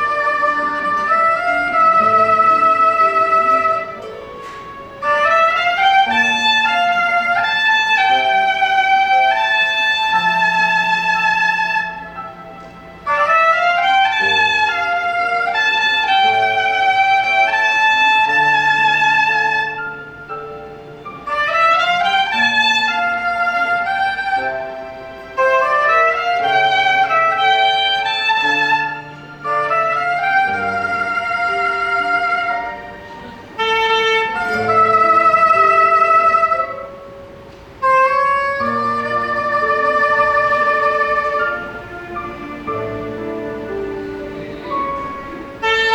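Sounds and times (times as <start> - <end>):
soprano saxophone melody: 0.0 - 45.9
sustained accompaniment: 0.0 - 45.9.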